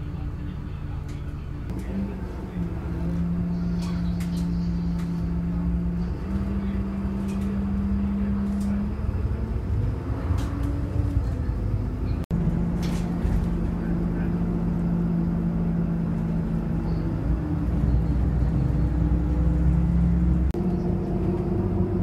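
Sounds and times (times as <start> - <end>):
bus engine hum and rumble: 0.0 - 22.0.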